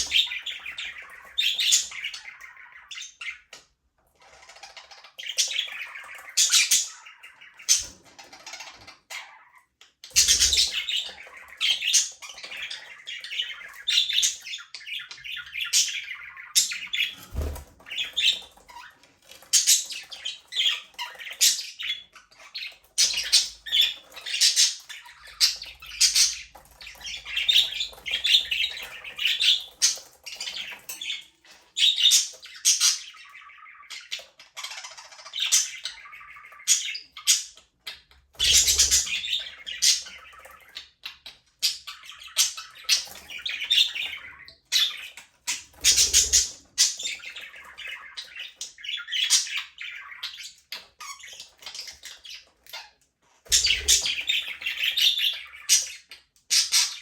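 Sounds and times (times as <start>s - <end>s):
budgerigars chirping: 0.0s - 57.0s.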